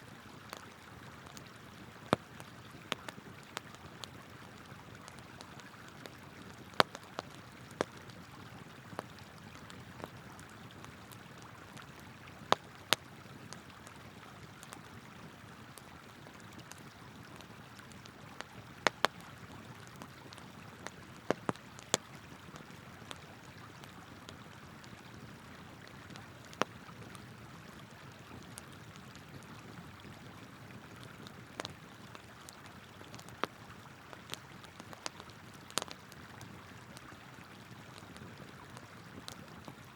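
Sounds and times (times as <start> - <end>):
firewood crackling and popping: 0.3 - 39.9.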